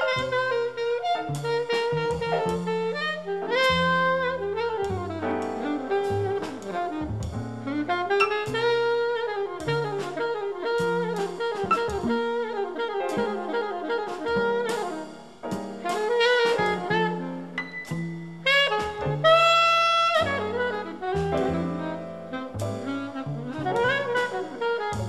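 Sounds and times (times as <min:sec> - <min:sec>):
double bass: 0:00.0 - 0:25.0
drum kit: 0:00.0 - 0:25.0
saxophone melody: 0:00.0 - 0:25.0.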